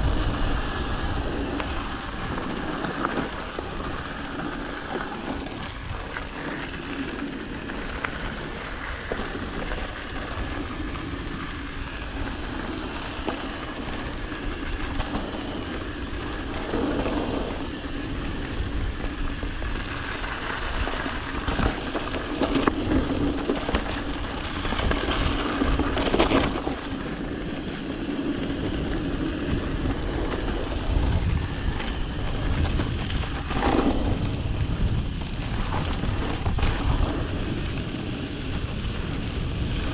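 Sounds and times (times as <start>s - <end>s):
bike rattling over bumps: 0.0s - 39.9s
bike tyres rolling on dirt: 0.0s - 39.9s.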